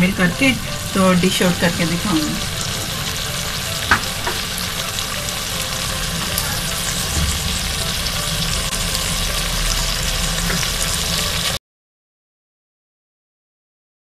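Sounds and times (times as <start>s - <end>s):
curry sizzling in oil: 0.0s - 11.6s.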